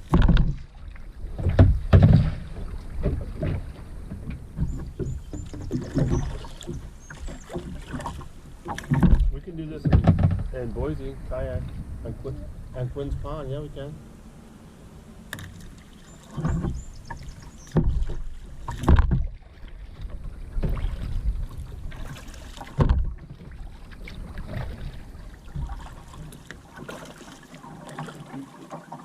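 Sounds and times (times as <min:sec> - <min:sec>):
sharp splashes or knocks: 0:00.0 - 0:10.8, 0:15.3 - 0:28.5
paddle strokes splashing in water: 0:00.0 - 0:12.0, 0:15.0 - 0:29.0.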